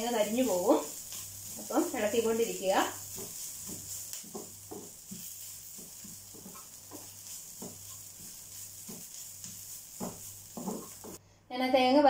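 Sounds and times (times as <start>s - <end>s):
wooden spatula scraping pan: 0.0s - 11.2s
faint sizzle: 0.0s - 11.9s.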